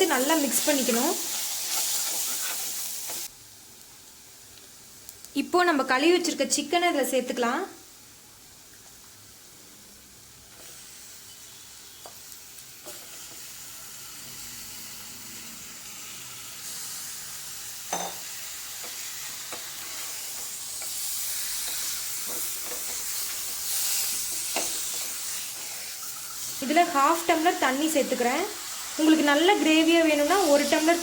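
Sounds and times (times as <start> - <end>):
chicken sizzling in hot oil: 0.0 - 4.3, 10.1 - 31.0.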